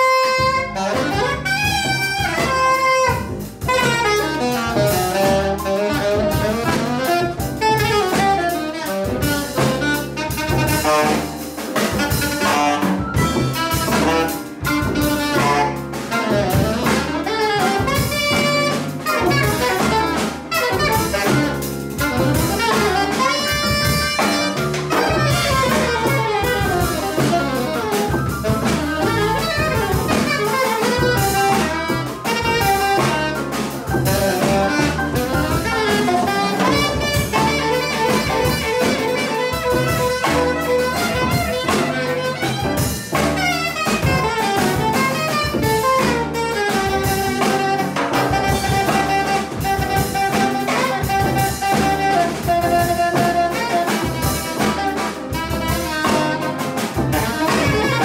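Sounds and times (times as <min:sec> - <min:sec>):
drum kit: 0:00.0 - 0:58.0
piano: 0:00.0 - 0:58.0
saxophone quick runs: 0:00.0 - 0:58.0
upright double bass: 0:00.0 - 0:58.0.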